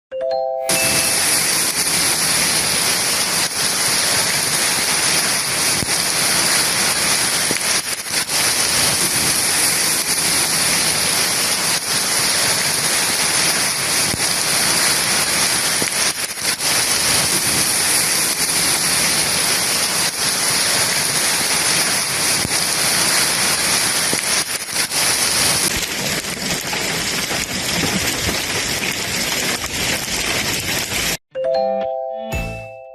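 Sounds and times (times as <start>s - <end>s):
heavy rain pouring: 0.7s - 31.2s.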